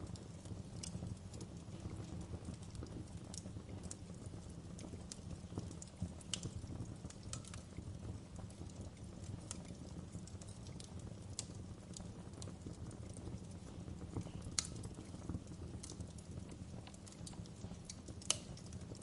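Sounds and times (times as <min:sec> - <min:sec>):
low rush of flames: 0:00.0 - 0:19.0
wood fire crackling and popping: 0:00.0 - 0:19.0.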